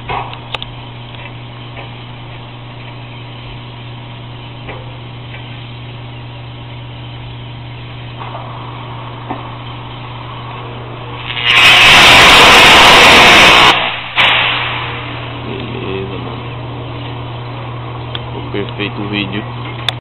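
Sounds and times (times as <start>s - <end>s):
constant hiss: 0.0s - 20.0s
low electrical hum: 0.0s - 20.0s.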